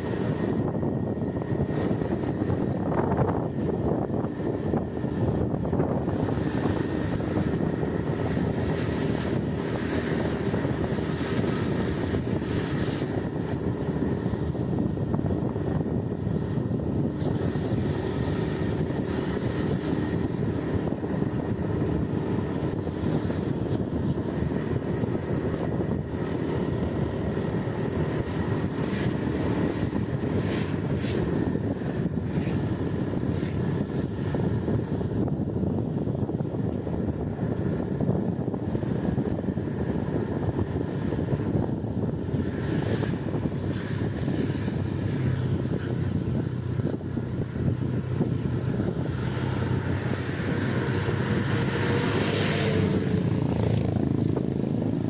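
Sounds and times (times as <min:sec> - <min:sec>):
motorcycle engine drone: 0:00.0 - 0:55.0
wind and road noise: 0:00.0 - 0:55.0.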